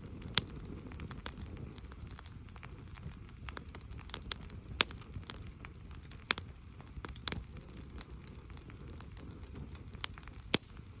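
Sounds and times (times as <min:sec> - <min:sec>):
campfire crackling: 0:00.0 - 0:11.0
fire popping: 0:00.0 - 0:11.0.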